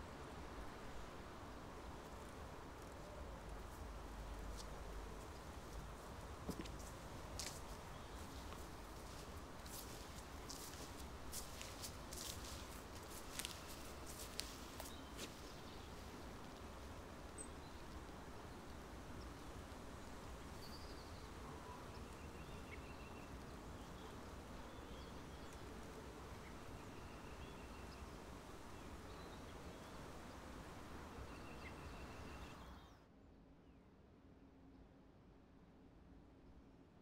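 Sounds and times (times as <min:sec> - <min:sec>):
low background noise: 0:00.0 - 0:37.0.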